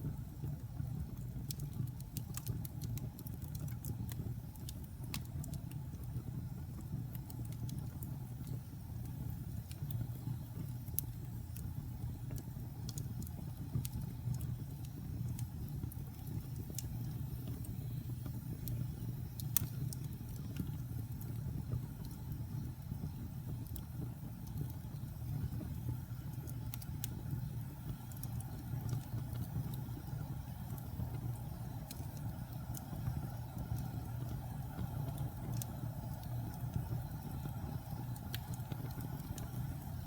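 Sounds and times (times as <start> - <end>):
fire crackles and pops: 0.0 - 40.0
low rumble of flames: 0.0 - 40.0.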